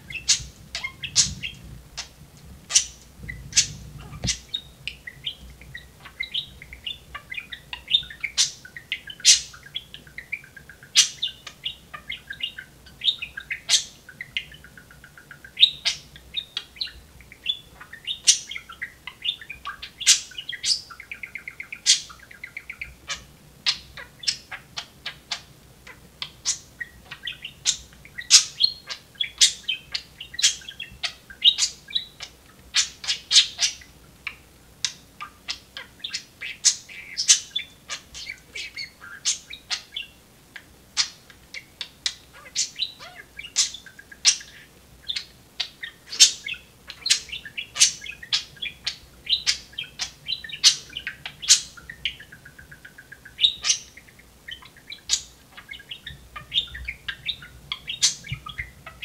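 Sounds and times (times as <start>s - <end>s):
budgerigar chattering: 2.7s - 59.0s.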